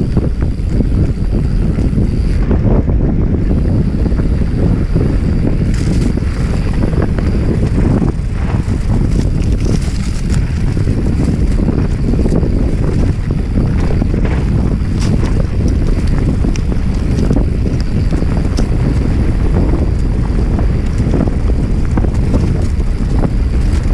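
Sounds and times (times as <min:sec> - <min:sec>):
wind rumbling on microphone: 0:00.0 - 0:23.9.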